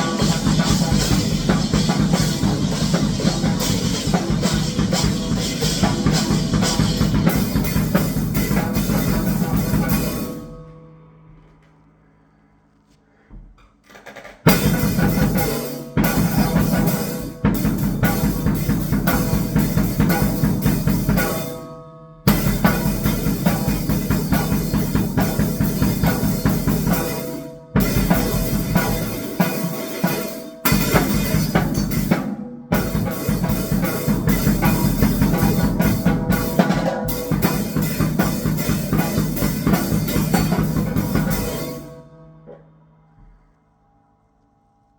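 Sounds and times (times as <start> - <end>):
fast drum kit playing: 0.0 - 10.6, 14.0 - 21.6, 22.3 - 42.0.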